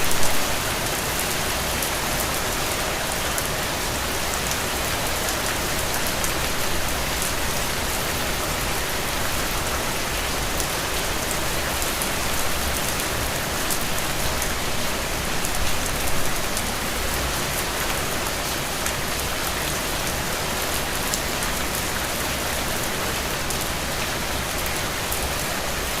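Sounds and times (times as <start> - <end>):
raindrops pattering and dripping: 0.0 - 26.0
steady rain falling: 0.0 - 26.0.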